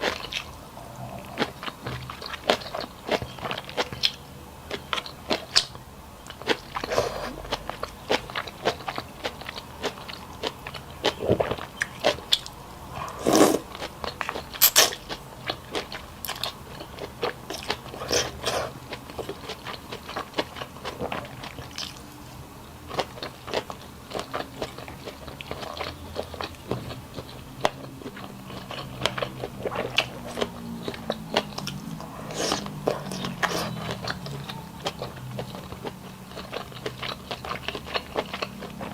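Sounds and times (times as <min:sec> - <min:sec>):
biting crunching and chewing: 0:00.0 - 0:22.1, 0:22.8 - 0:38.9.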